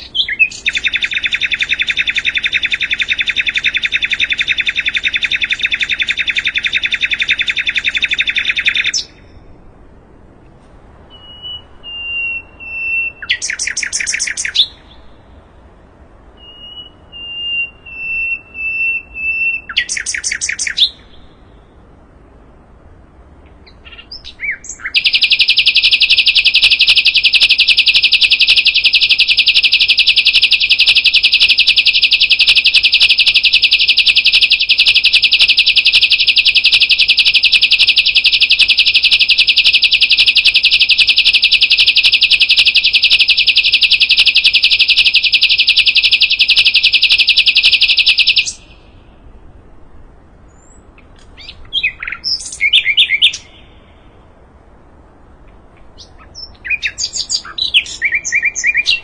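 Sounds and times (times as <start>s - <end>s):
bird singing rapid high trill: 0.0s - 9.6s, 11.0s - 22.2s, 23.2s - 49.3s, 50.4s - 54.5s, 55.9s - 59.0s.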